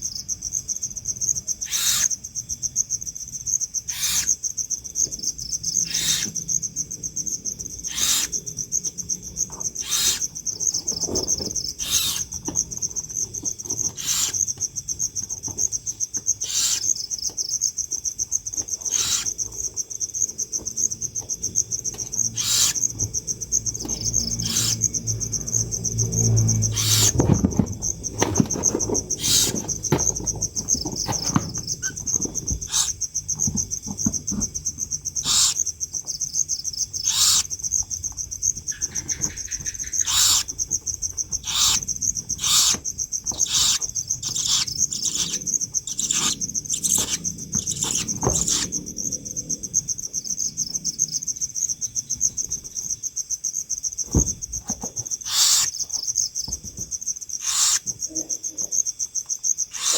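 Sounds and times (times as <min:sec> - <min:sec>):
high insect trill: 0:00.0 - 0:59.9.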